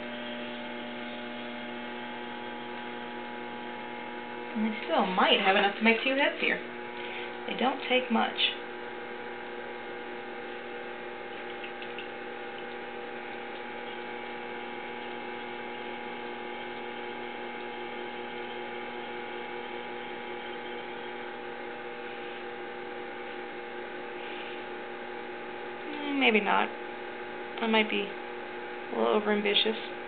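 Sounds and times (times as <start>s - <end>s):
potter's wheel motor humming: 0.0s - 30.0s.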